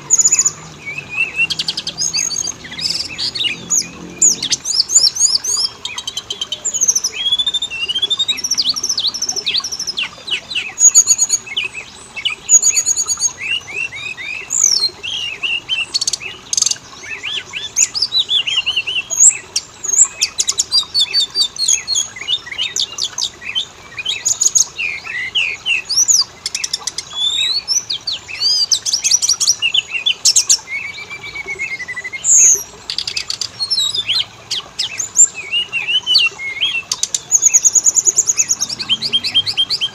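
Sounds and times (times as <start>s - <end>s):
bird song with whistles and trills: 0.0s - 39.9s.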